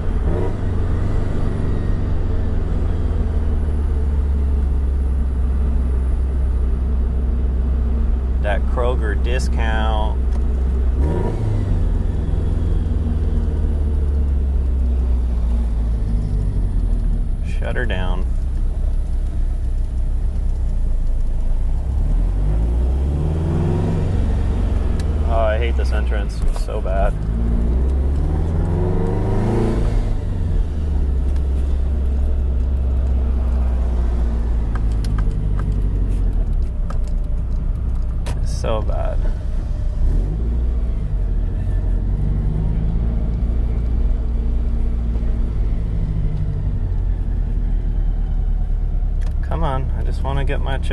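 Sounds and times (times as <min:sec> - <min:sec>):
car engine with loud exhaust: 0:00.0 - 0:50.9.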